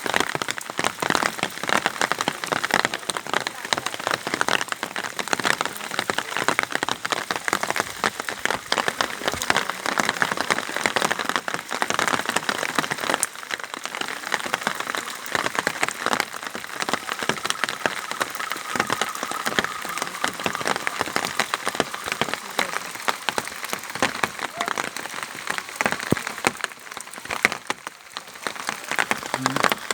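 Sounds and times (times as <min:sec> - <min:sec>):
steady rain patter: 0:00.0 - 0:29.9.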